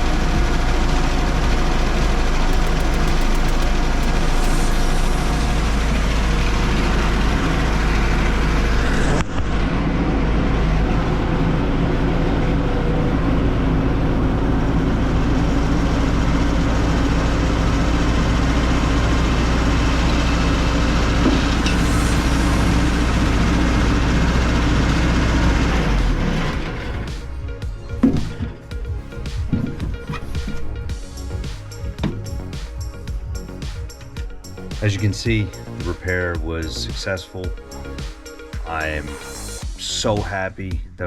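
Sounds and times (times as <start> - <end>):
skid steer engine rumbling: 0.0 - 38.0.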